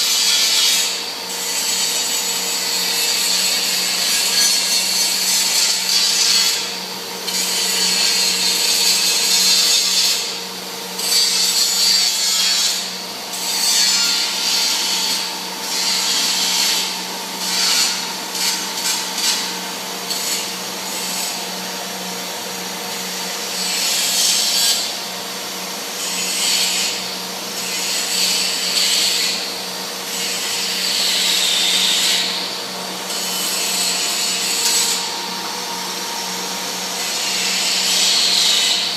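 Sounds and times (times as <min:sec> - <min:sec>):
lathe running with a hum: 0:00.0 - 0:38.9.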